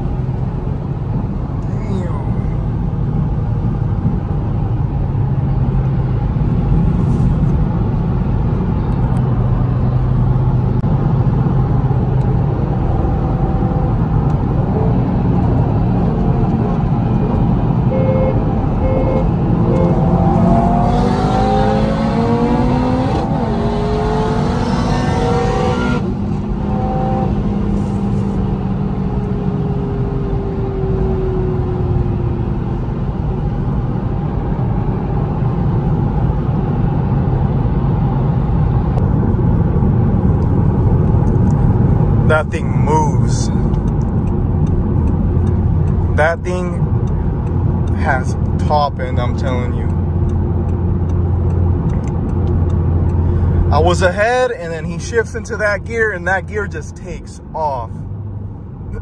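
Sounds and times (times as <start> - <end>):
car engine accelerating: 0.0 - 59.0
road noise: 0.0 - 59.0.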